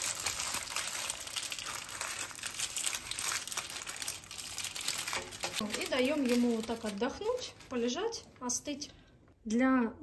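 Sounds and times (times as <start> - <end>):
parchment paper crinkling: 0.0 - 8.2.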